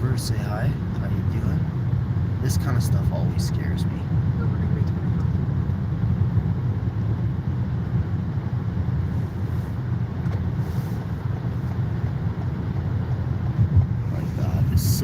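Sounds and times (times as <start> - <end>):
road and tyre rumble in car: 0.0 - 15.0.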